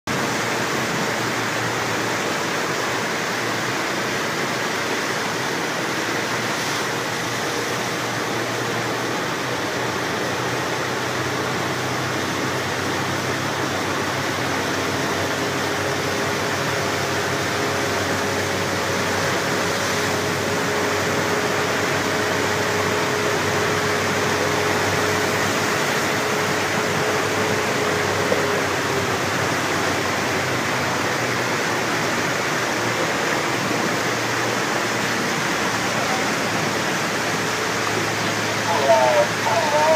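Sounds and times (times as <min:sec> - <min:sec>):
air and water rushing past: 0:00.1 - 0:39.9.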